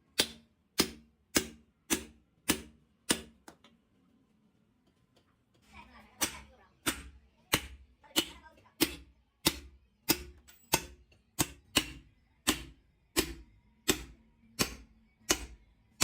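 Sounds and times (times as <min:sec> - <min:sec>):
hammer on metal: 0:00.2 - 0:03.4, 0:06.2 - 0:16.0.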